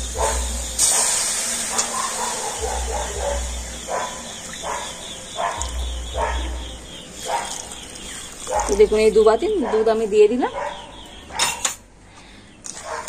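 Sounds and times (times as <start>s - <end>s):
dog barking: 0.1s - 7.8s, 8.4s - 8.8s, 9.5s - 11.8s, 12.8s - 13.0s.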